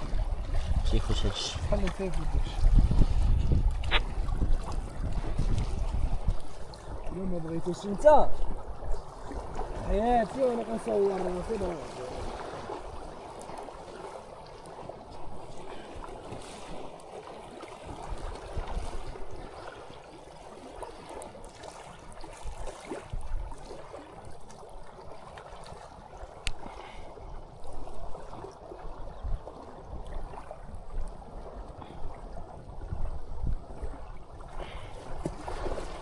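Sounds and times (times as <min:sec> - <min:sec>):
stream water flowing: 0:00.0 - 0:36.0.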